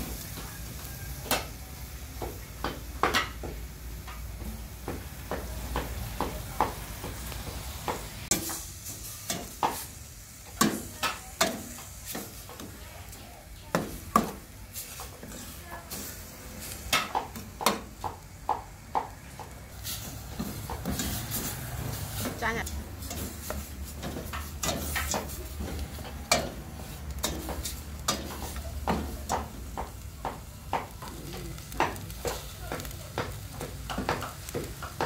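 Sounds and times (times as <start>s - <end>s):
paste sizzling in oil: 0.0s - 35.0s.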